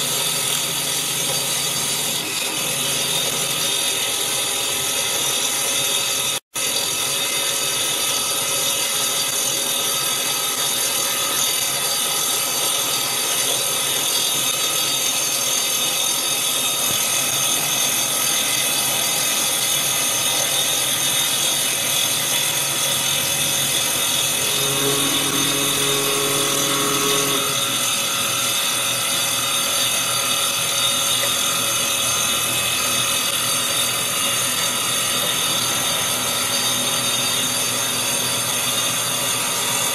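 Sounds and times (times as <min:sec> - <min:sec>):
saw blade cutting wood whine: 0:00.0 - 0:39.9.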